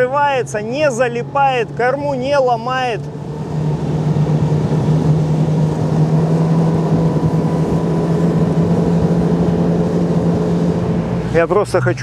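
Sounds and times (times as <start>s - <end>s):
outboard motor running: 0.4s - 12.0s.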